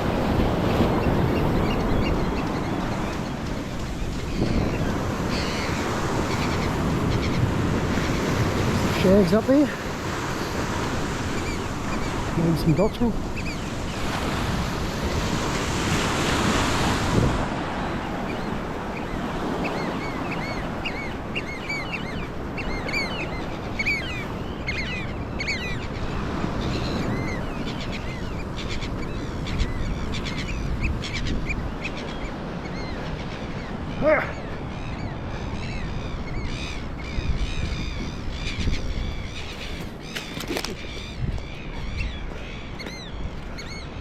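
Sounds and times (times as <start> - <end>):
surf and wind hiss: 0.0 - 38.8
shorebirds piping: 0.0 - 44.0.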